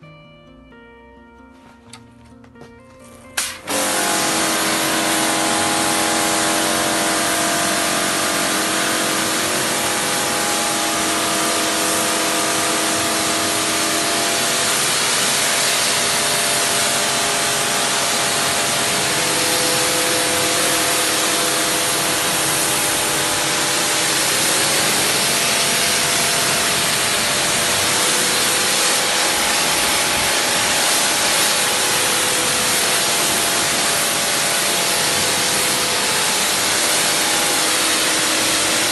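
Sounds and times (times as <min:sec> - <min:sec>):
pressure washer pump humming: 0:01.9 - 0:38.9
water jet hissing on stone: 0:03.4 - 0:38.9.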